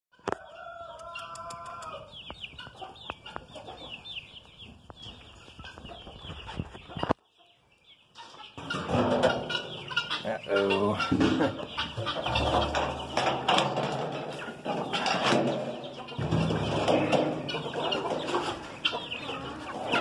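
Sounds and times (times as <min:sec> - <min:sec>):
hens clucking and chirping: 0:00.1 - 0:20.0.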